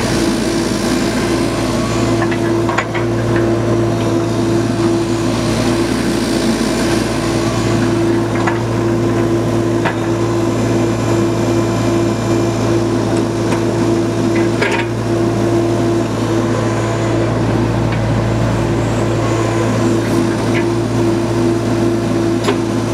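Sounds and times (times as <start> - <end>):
diesel engine humming: 0.0 - 22.9.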